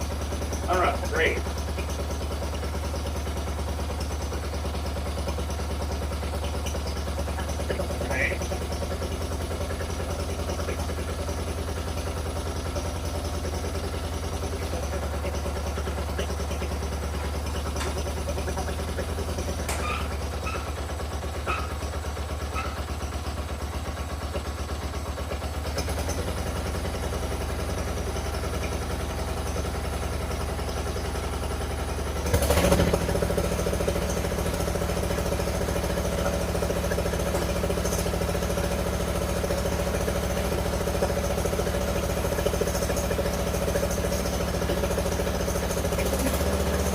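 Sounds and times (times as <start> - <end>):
lawn tractor engine idling: 0.0 - 46.9.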